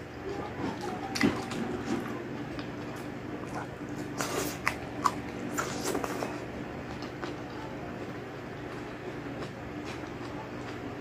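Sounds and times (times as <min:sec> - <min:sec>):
steady low hum: 0:00.0 - 0:11.0
chewing and lip-smacking: 0:00.2 - 0:11.0.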